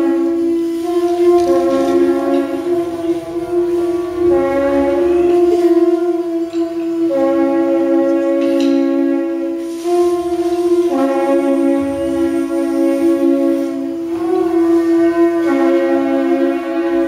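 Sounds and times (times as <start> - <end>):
horn-like wind instruments: 0.0 - 17.0.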